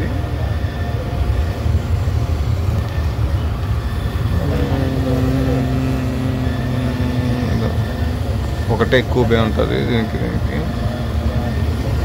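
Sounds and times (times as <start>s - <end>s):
steady pitched hum: 0.0s - 12.0s
train rumbling: 0.0s - 12.0s.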